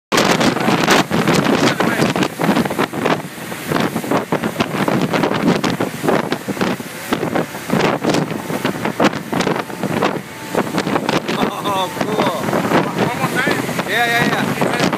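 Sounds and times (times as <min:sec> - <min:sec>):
water rushing under boat: 0:00.1 - 0:14.9
wind buffeting microphone: 0:00.1 - 0:14.9.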